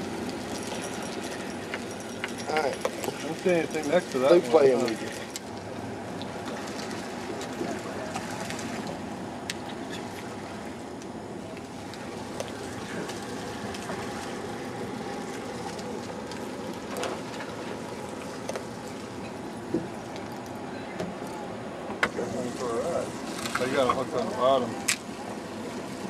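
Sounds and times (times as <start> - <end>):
ocean surf: 0.0 - 26.0
wind: 0.0 - 26.0.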